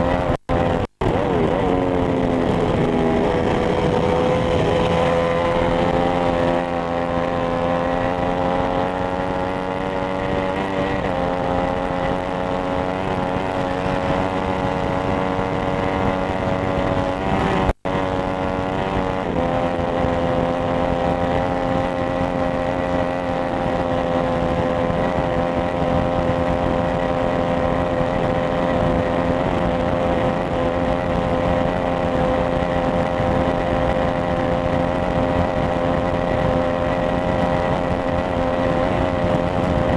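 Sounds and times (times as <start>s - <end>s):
motorcycle engine at high revs: 0.0s - 39.9s
wind rush: 0.0s - 39.9s.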